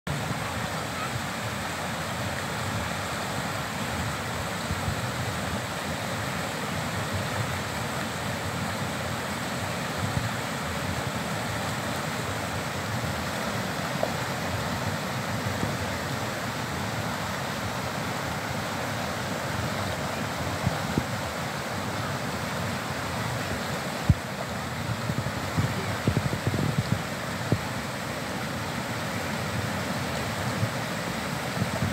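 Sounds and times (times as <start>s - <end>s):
river rushing over rocks: 0.1s - 31.9s.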